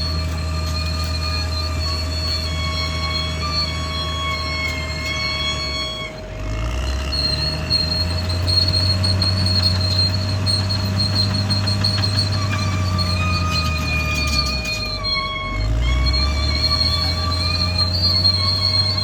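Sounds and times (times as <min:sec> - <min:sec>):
diesel engine running under load: 0:00.0 - 0:19.0
steel tracks squealing: 0:00.0 - 0:19.0.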